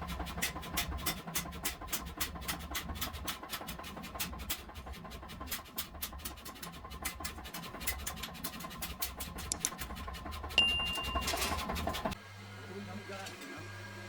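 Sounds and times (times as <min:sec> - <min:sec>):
scratching strokes on metal: 0:00.0 - 0:12.2.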